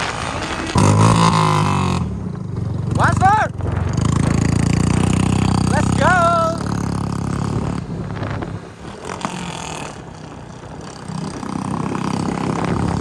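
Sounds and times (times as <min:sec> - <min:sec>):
motorcycle engine exhaust note: 0:00.0 - 0:13.0.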